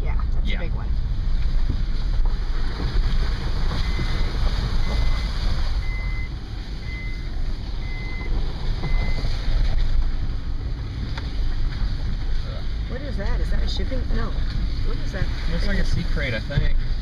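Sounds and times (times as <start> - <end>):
tyres and engine rumbling: 0.0 - 17.0.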